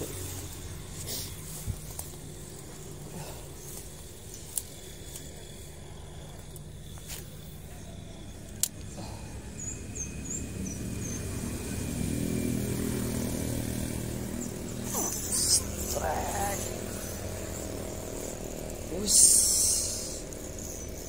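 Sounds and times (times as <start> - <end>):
vehicle engine hum passing: 0.0 - 21.0.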